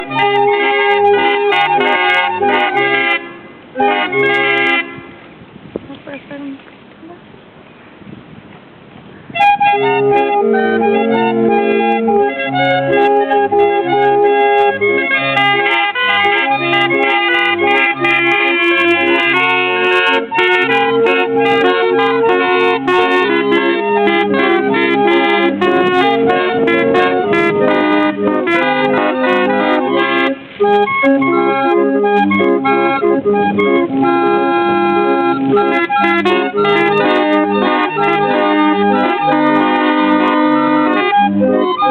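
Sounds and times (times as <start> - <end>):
barrel organ playing a tune: 0.0 - 5.3, 9.2 - 41.9.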